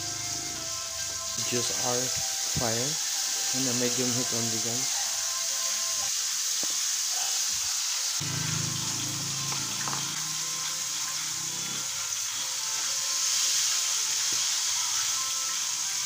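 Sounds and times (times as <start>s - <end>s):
squid sizzling in hot oil: 0.0s - 16.0s.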